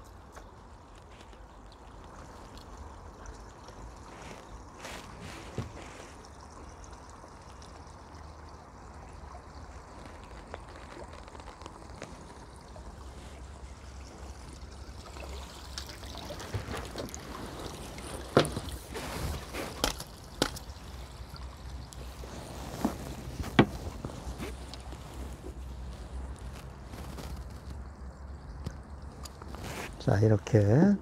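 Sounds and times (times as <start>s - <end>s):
fish splashing in water: 0.4s - 30.0s.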